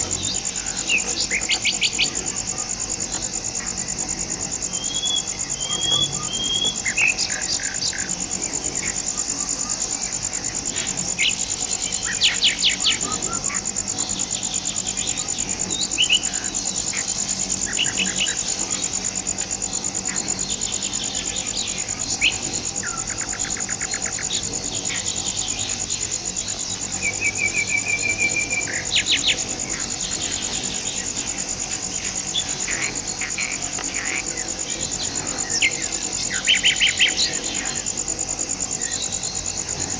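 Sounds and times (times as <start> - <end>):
bird calls and chirps: 0.0 - 39.9
insect drone: 0.0 - 39.9.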